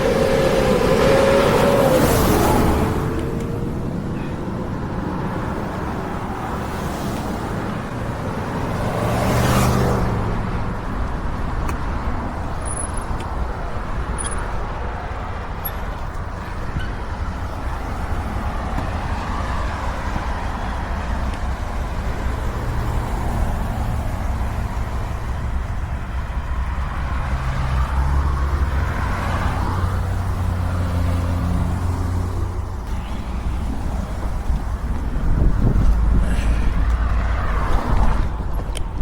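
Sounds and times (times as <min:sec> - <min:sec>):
cars passing close by: 0:00.0 - 0:39.0
wind rumble on microphone: 0:00.0 - 0:39.0.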